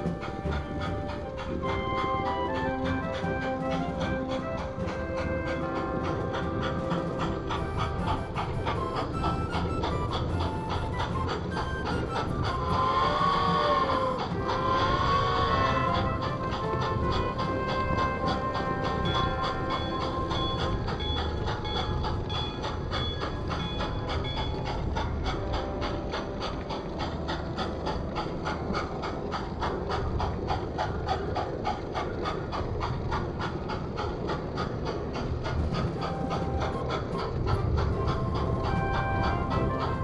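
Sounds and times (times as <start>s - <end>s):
model train clicking: 0.0s - 40.0s
model train rumble: 0.0s - 40.0s.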